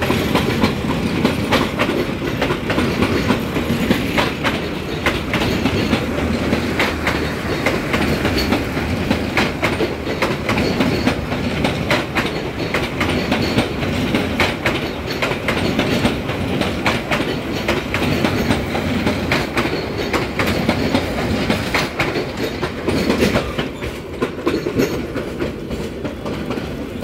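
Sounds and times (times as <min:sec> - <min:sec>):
train rumble: 0:00.0 - 0:27.0
train wheels clattering over rail joints: 0:00.0 - 0:27.0.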